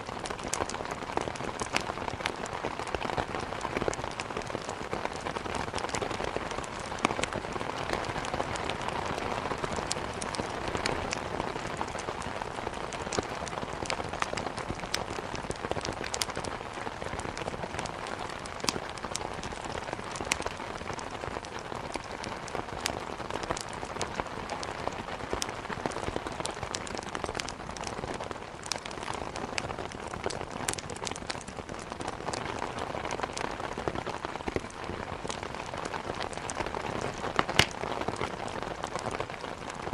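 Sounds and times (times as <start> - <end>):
heavy rain hitting a window: 0.0 - 39.9
wood fire crackling: 0.0 - 39.9.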